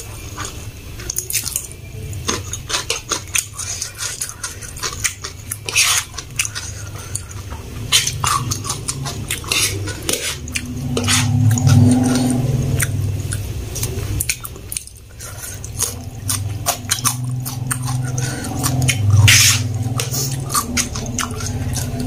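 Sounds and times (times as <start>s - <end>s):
wet chewing and mouth smacks: 2.3s - 22.0s.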